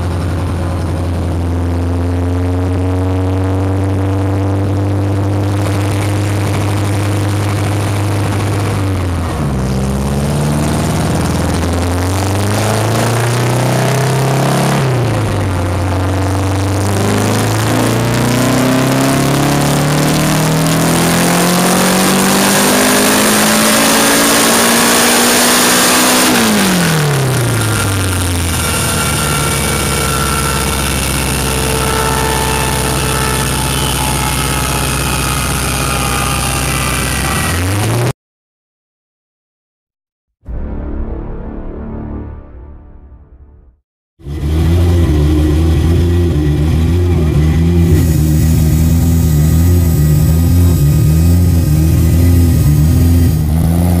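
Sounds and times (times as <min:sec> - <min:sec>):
car engine idling and revving: 0:00.0 - 0:38.1, 0:44.2 - 0:54.0.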